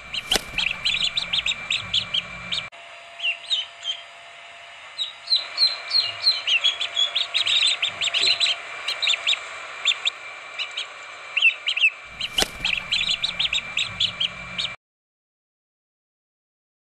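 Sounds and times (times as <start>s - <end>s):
chicks peeping: 0.0s - 4.0s, 5.0s - 14.8s.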